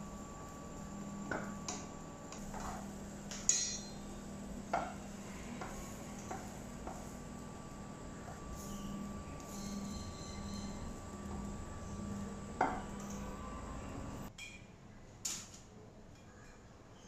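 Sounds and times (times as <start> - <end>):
faint steady hum: 0.0 - 15.2.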